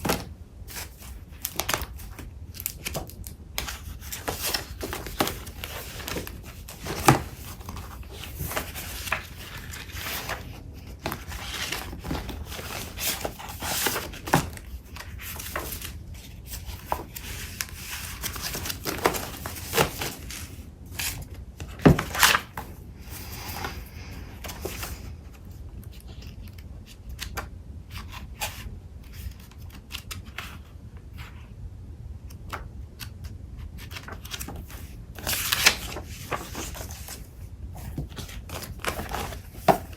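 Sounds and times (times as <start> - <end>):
paper rustling and shuffling: 0.0 - 31.5, 32.3 - 39.9.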